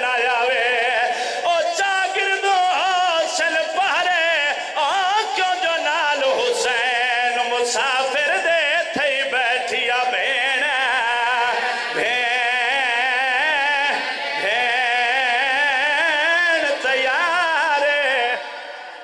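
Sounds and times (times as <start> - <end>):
man chanting a lament: 0.0 - 18.7.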